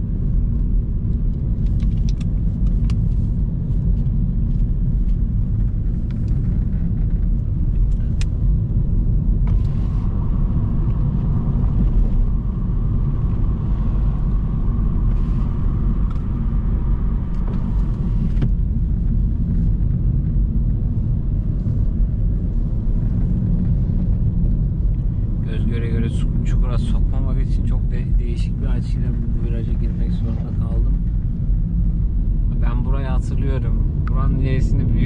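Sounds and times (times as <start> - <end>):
road and engine rumble: 0.0 - 35.0.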